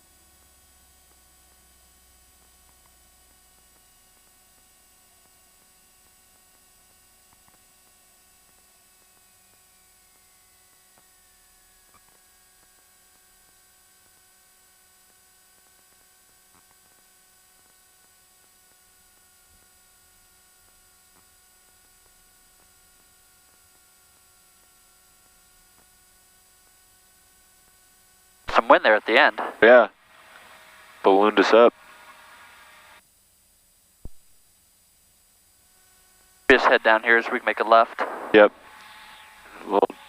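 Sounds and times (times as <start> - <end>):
faint hiss and hum: 0.0 - 40.0.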